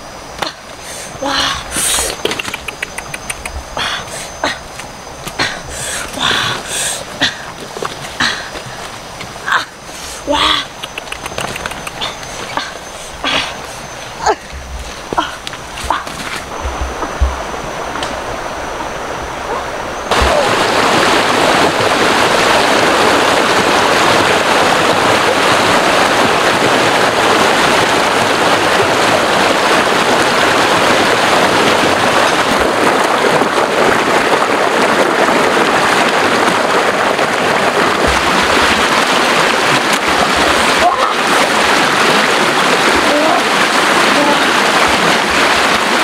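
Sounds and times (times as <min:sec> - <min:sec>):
stream rushing over rapids: 0:00.0 - 0:46.0.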